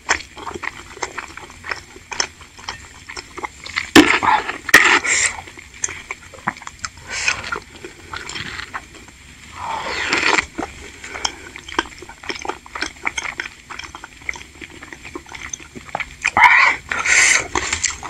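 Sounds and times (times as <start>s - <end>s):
chewing with sticky mouth clicks: 0.0s - 9.2s, 9.8s - 18.0s.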